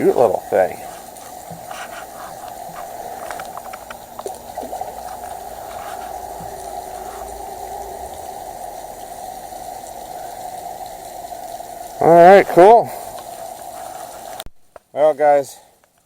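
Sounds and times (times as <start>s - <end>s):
running splashing water: 0.0s - 14.5s.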